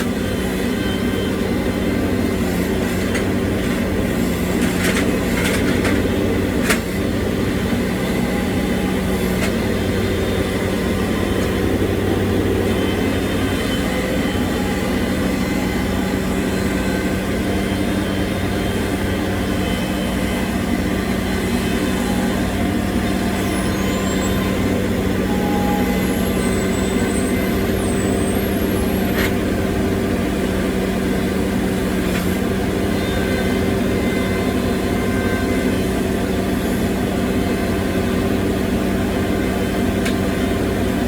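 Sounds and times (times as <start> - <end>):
heavy equipment engine running: 0.0 - 41.0.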